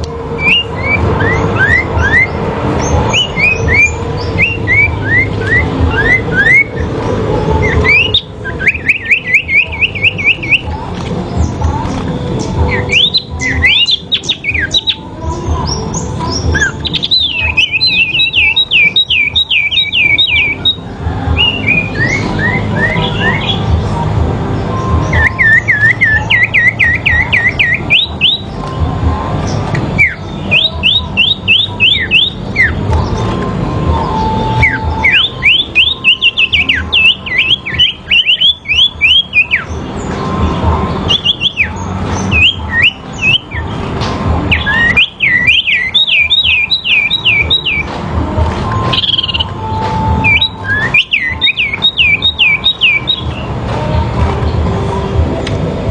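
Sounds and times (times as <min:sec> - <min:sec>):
songbirds singing high chirps: 0:00.0 - 0:55.9.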